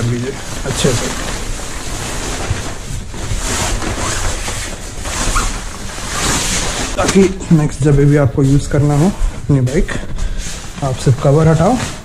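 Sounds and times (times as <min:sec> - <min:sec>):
fabric cover rustling: 0:00.0 - 0:12.0.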